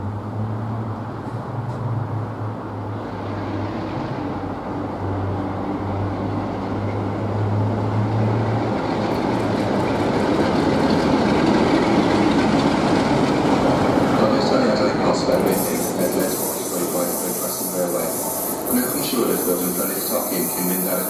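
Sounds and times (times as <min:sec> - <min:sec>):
diesel locomotive droning: 0:00.0 - 0:21.0
wheel and rail noise: 0:00.0 - 0:21.0.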